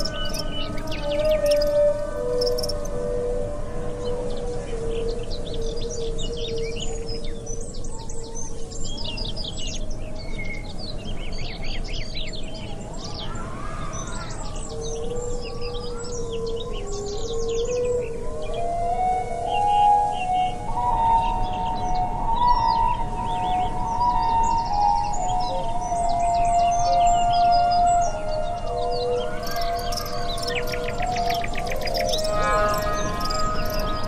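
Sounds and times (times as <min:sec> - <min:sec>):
birds chirping and trilling: 0:00.0 - 0:03.2, 0:04.0 - 0:34.0
slow background music tones: 0:00.0 - 0:34.0.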